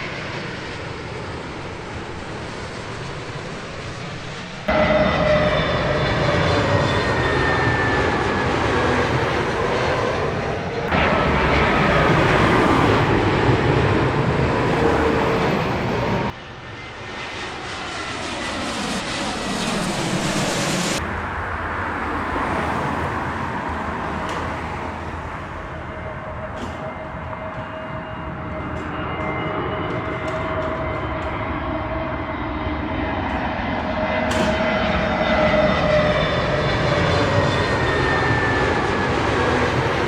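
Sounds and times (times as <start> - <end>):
jet airliners passing: 0.0 - 40.0.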